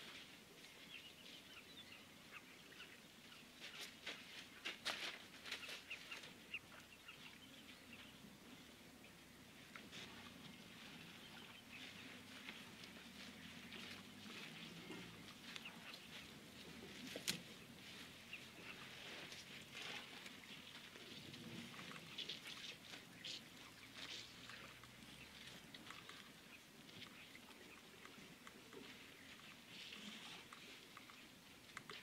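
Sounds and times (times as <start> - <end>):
soft ticks and chirps: 0.1 - 32.0.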